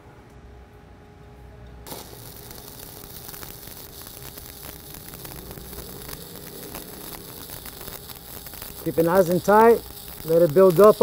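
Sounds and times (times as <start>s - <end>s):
arc welding crackle: 1.8s - 11.0s.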